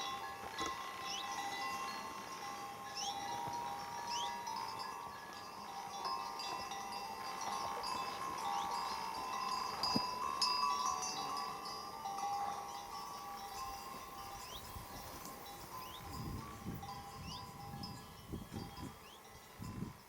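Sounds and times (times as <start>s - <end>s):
horse collar bells jangling: 0.0s - 20.0s.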